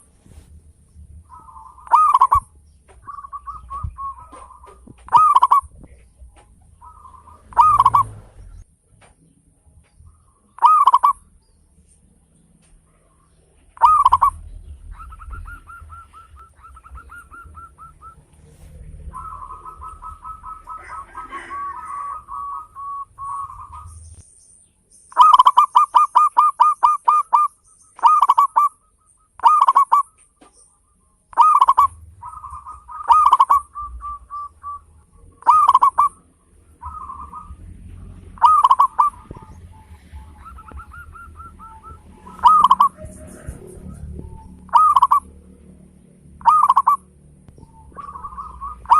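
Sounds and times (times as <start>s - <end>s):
dove cooing: 1.1s - 8.6s, 10.1s - 11.3s, 12.8s - 24.2s, 25.1s - 48.9s.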